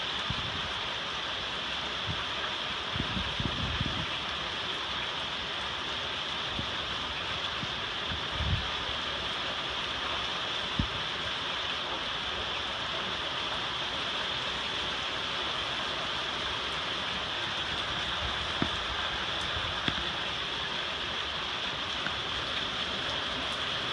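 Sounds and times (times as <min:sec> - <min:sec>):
steady rain hissing: 0:00.0 - 0:23.9.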